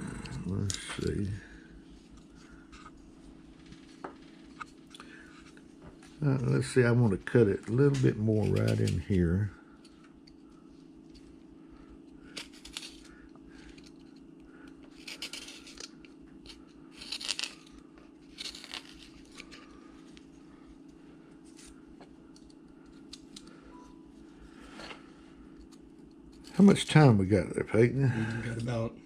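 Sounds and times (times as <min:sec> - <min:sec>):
low hum: 0:00.0 - 0:26.5.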